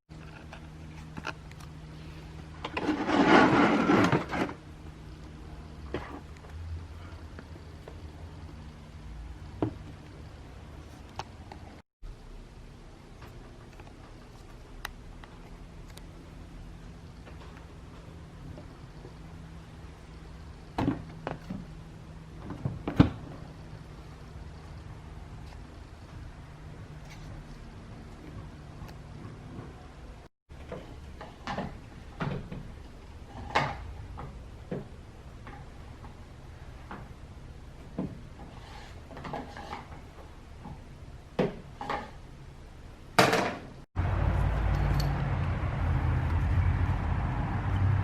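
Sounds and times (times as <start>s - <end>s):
steady low hum: 0.1s - 43.2s.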